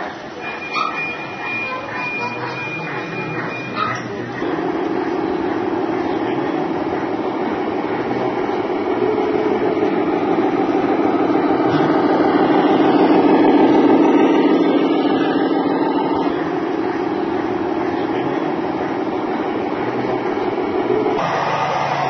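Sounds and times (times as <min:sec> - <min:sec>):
model truck engine running: 0:00.2 - 0:22.0.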